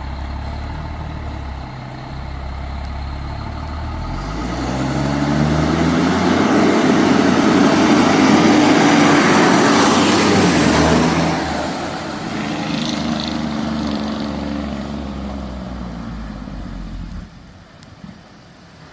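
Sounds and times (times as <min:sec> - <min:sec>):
fire truck driving past: 0:00.0 - 0:18.9.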